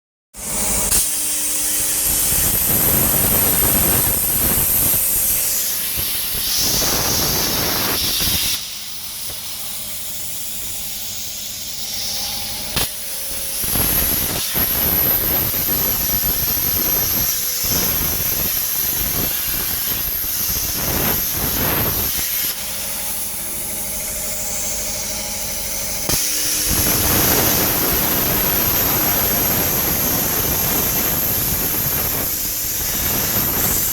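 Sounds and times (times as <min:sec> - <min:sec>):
plasma cutter hissing: 0:00.5 - 0:33.9.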